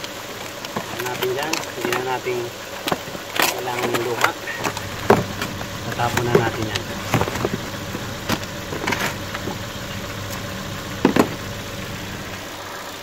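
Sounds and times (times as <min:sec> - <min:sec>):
tools clacking and knocking: 0:00.0 - 0:09.7, 0:10.3 - 0:11.4
engine idling: 0:00.0 - 0:13.0.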